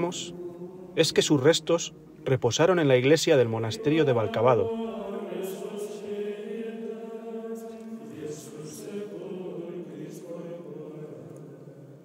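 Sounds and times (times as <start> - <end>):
chanting voices in long held notes: 0.0 - 12.0.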